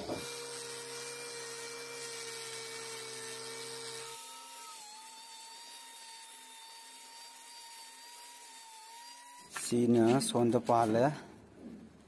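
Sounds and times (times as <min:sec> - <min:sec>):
angle grinder wire brush whine: 0:00.0 - 0:09.9.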